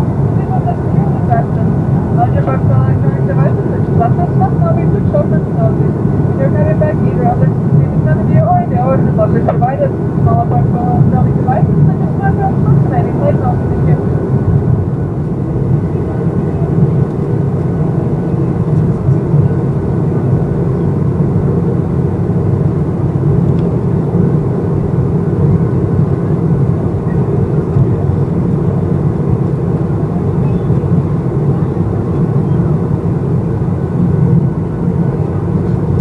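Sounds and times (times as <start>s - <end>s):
jet engine drone: 0.0s - 36.0s.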